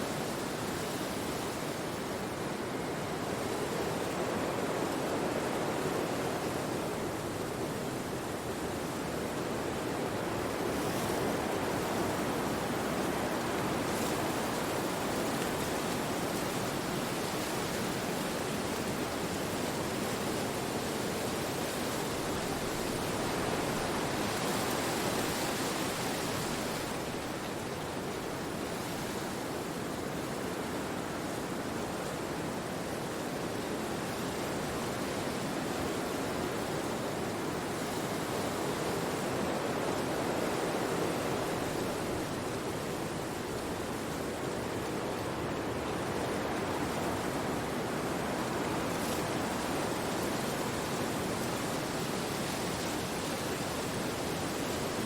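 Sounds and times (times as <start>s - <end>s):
wind rushing through trees: 0.0s - 55.0s.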